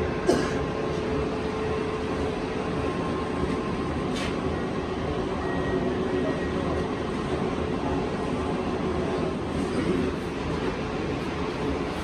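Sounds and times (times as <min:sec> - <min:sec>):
machine-shop machinery humming: 0:00.0 - 0:12.0.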